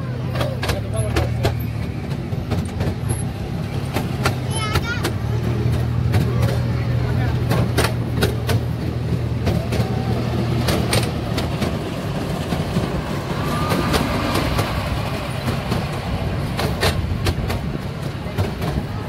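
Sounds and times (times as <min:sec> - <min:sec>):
roller coaster rumbling on track: 0:00.0 - 0:19.0
sharp track clacks: 0:00.1 - 0:19.0.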